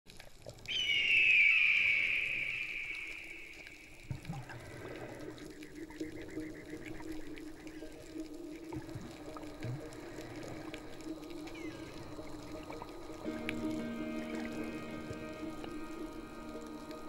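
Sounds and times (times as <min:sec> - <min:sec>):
faint underwater water noise: 0:00.1 - 0:17.0.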